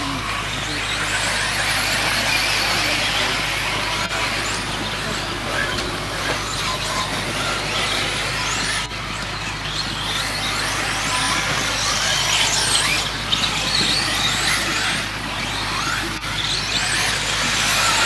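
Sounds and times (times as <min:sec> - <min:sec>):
rc car electric motors whining: 0:00.0 - 0:18.0.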